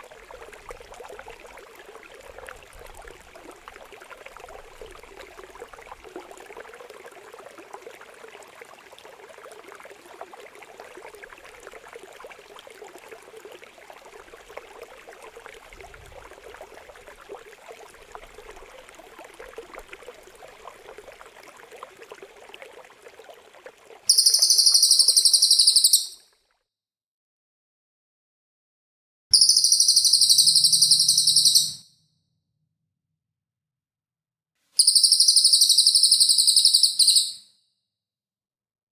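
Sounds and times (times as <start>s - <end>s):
trickling water: 0.0s - 26.6s, 29.3s - 31.8s, 34.8s - 37.3s.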